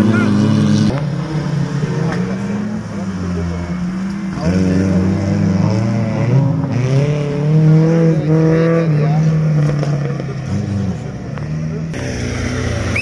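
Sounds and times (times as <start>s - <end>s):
off-road engines revving: 0.0s - 13.0s.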